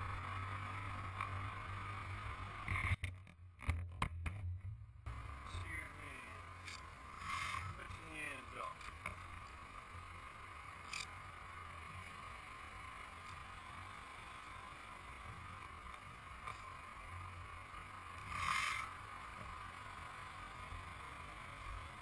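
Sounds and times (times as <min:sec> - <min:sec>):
motorcycle idling hum: 0:00.0 - 0:22.0
traffic: 0:00.0 - 0:22.0.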